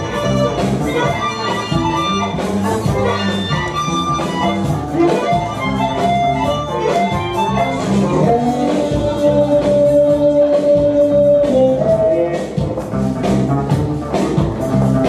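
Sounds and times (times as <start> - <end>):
blues music: 0.0 - 15.0.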